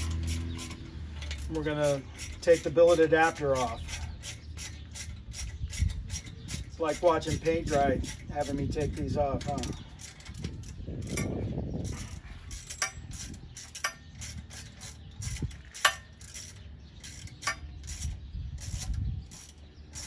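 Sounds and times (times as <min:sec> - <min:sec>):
ratchet wrench clicking: 0:00.0 - 0:20.0.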